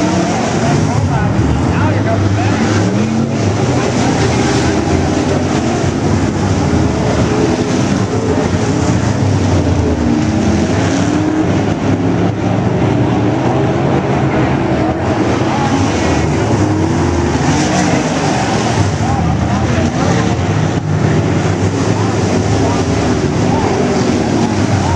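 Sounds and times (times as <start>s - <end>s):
race car engines revving: 0.0s - 24.9s.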